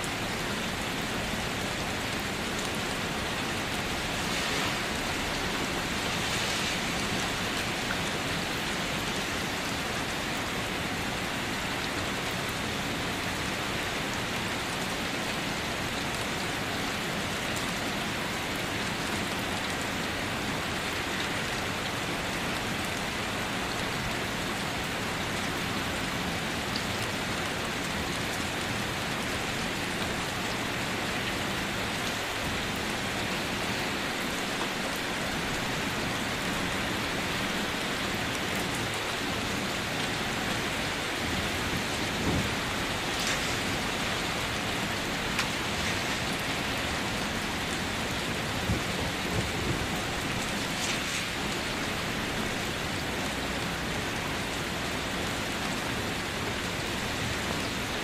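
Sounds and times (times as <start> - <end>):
heavy rain on wet ground: 0.0 - 58.0.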